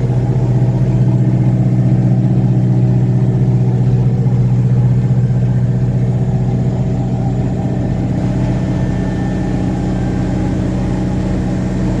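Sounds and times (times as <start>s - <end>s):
drill rig engine humming: 0.0s - 12.0s.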